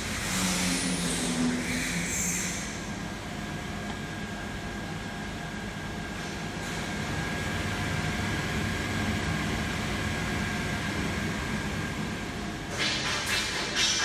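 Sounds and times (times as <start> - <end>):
servo drives and cooling fans humming: 0.0 - 14.0.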